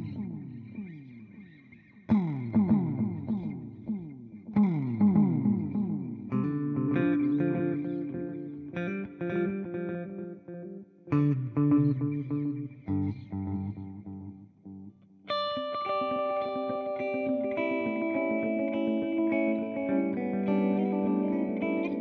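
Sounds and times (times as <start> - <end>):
electric guitar strums with delay echoes: 0.0 - 22.0
sustained electric guitar chords: 0.0 - 22.0.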